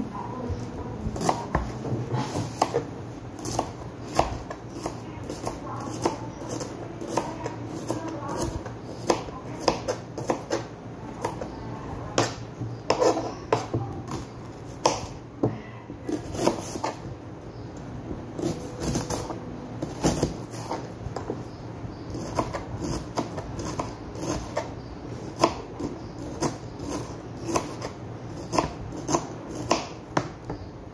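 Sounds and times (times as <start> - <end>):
knife chopping on plastic board: 1.1 - 11.5, 12.1 - 17.1, 18.1 - 21.5, 22.1 - 30.6.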